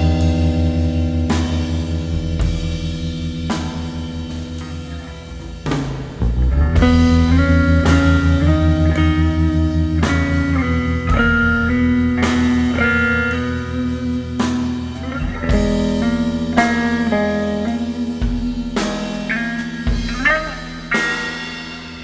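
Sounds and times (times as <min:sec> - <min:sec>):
space-rock music: 0:00.0 - 0:22.0.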